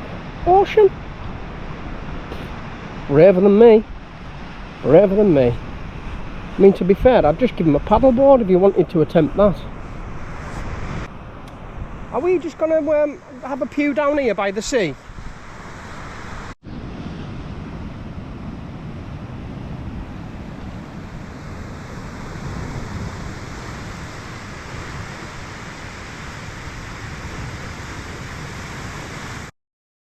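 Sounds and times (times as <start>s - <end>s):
sea surf washing: 0.0s - 29.5s.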